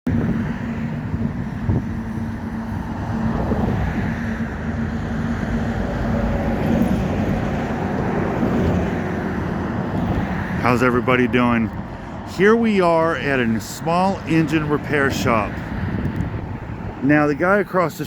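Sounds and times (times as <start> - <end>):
motor vehicle running: 0.1 - 18.0.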